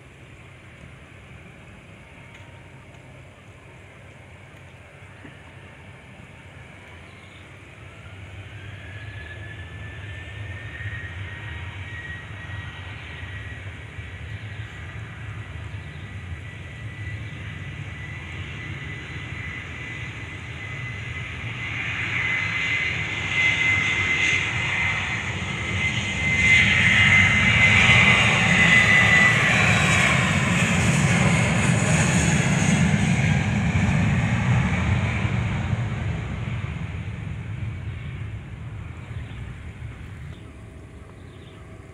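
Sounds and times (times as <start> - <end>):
jet engines passing by: 0.0 - 41.9.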